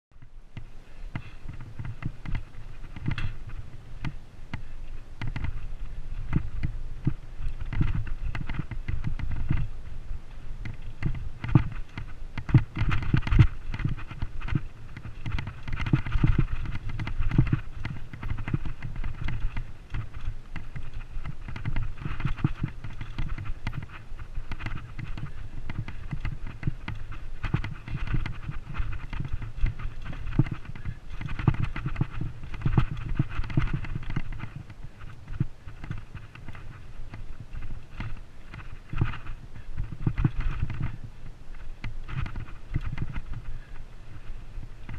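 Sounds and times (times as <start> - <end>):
bike knocking and rattling: 0.1 - 44.9
wind rumbling on microphone: 0.1 - 44.9.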